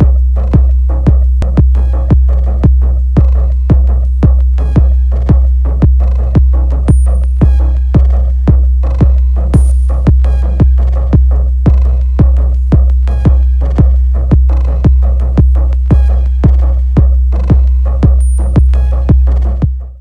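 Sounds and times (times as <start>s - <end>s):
electronic music with drum machine: 0.0s - 20.0s.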